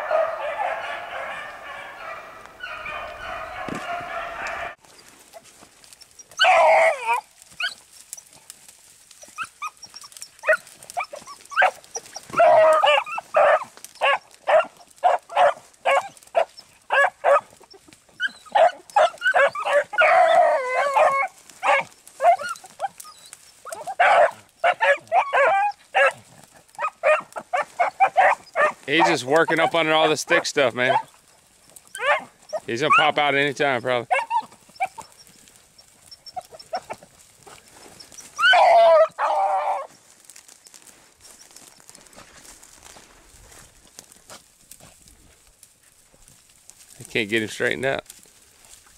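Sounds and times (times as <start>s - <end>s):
hounds baying and barking: 0.0s - 48.9s.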